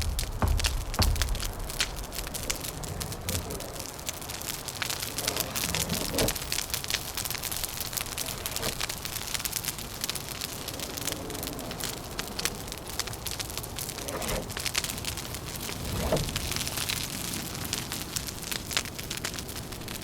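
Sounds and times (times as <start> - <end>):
wind noise: 0.0 - 20.0
wood fire crackling: 0.0 - 20.0.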